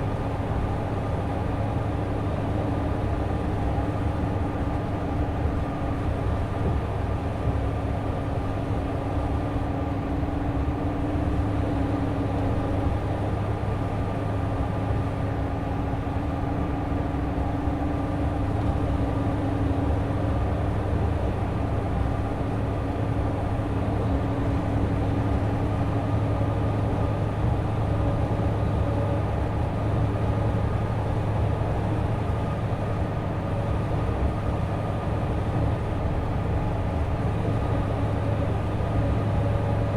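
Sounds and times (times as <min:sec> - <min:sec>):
coach diesel engine cruising: 0:00.0 - 0:39.9.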